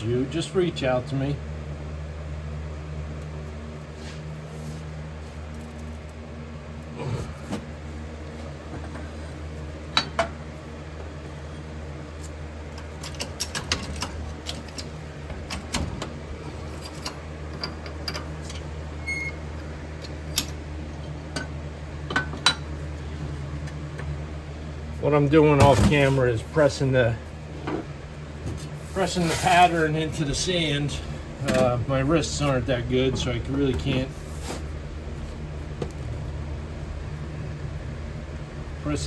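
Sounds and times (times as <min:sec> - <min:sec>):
furnace humming: 0:00.0 - 0:39.0.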